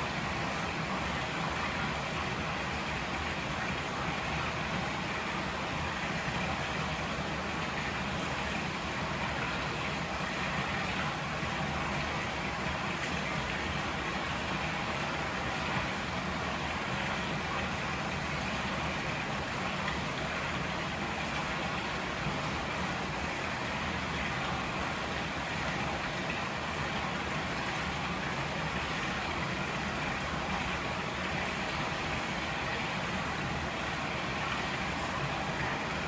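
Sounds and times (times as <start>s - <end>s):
river rushing: 0.0s - 36.0s.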